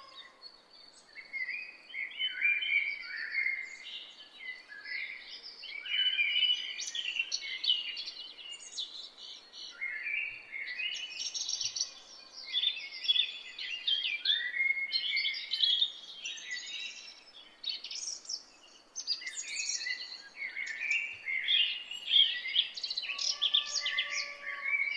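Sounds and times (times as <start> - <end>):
birds singing and chirping: 0.0 - 24.9.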